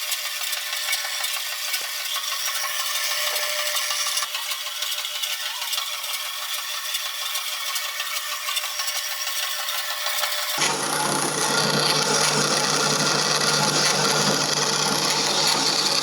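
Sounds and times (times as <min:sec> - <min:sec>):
band saw metallic rattle: 0:00.0 - 0:16.0.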